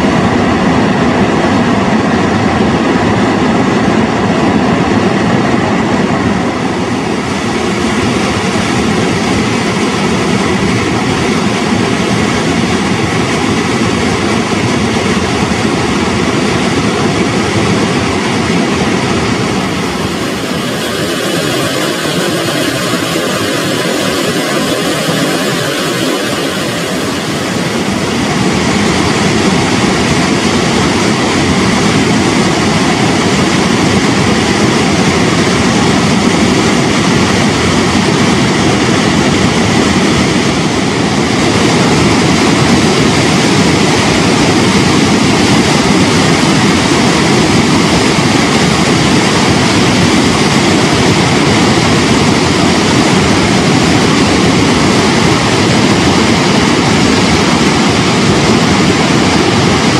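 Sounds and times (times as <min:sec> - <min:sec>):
waterfall rushing and rumbling: 0:00.0 - 0:59.9.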